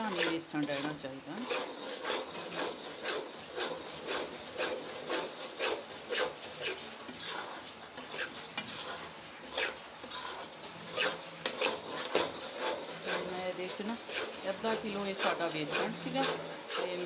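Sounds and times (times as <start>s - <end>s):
spatula scraping a steel pan: 0.0s - 17.0s.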